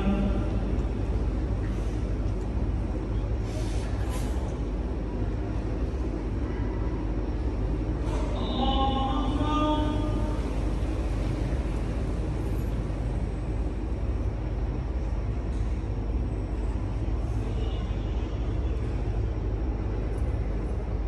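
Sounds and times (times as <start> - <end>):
crowd rumble in a hall: 0.0 - 21.0.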